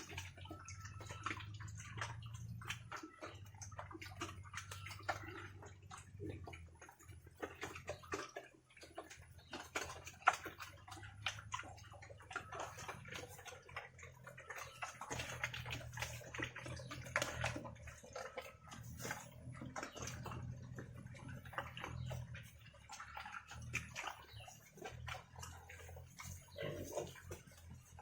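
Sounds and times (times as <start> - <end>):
pigs chewing and slurping: 0.0 - 28.0.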